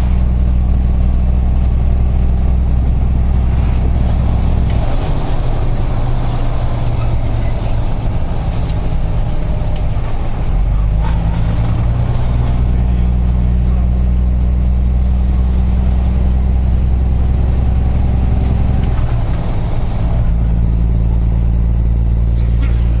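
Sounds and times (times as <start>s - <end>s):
road noise: 0.0s - 23.0s
truck diesel engine drone: 0.0s - 23.0s.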